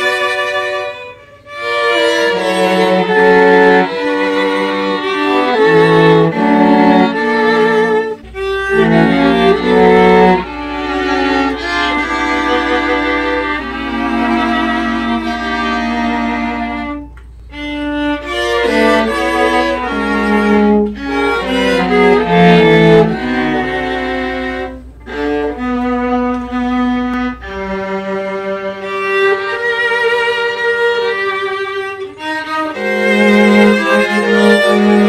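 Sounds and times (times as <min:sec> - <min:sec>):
string quartet playing: 0:00.0 - 0:35.0.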